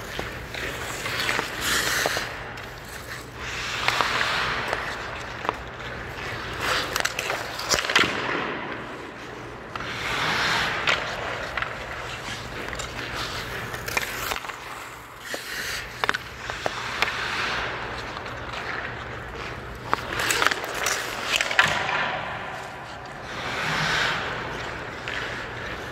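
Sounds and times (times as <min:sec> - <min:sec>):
skate blades scraping ice: 0:00.0 - 0:25.9
stick hitting puck: 0:00.0 - 0:25.9.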